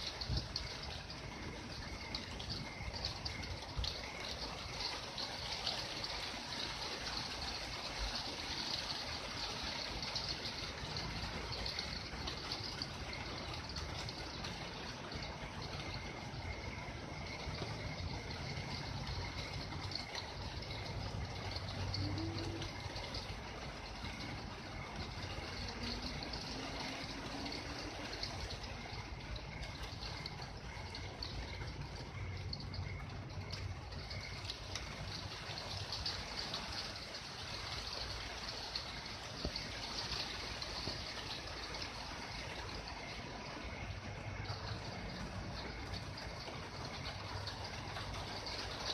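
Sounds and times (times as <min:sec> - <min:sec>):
rain falling: 0:00.0 - 0:48.9
water trickling: 0:00.0 - 0:48.9.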